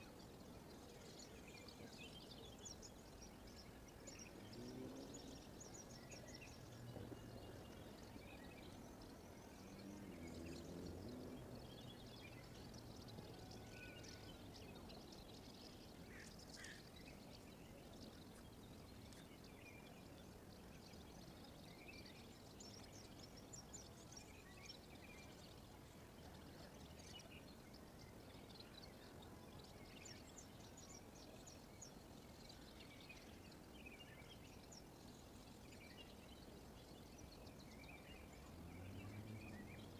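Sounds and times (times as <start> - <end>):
low steady hiss: 0.0 - 39.9
small birds chirping: 0.0 - 39.9.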